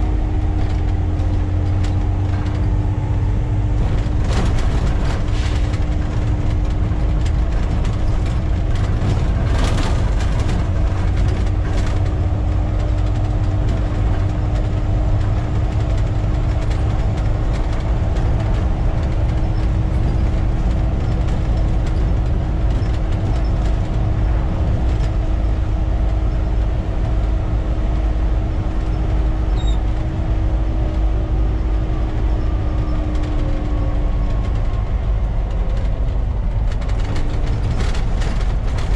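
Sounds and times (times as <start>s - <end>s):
bus body rattles and knocks: 0.0s - 38.9s
bus diesel engine running: 0.0s - 38.9s
steady drivetrain whine: 0.0s - 38.9s.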